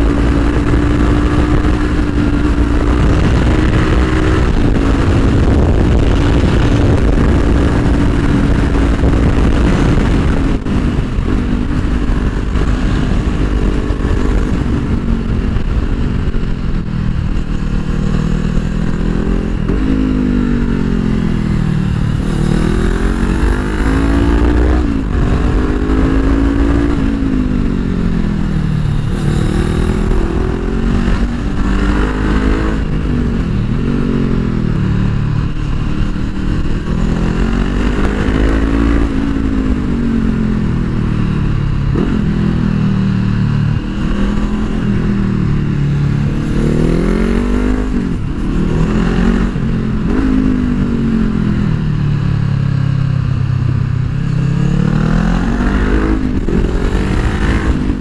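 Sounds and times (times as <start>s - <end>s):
motorcycle engine revving: 0.0s - 58.0s
wind rumble: 0.0s - 58.0s.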